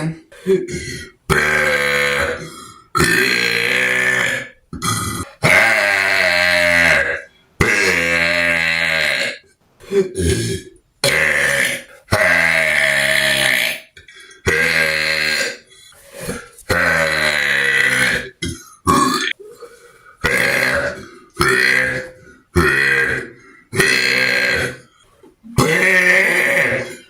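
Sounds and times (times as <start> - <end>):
person burping: 0.0 - 27.0.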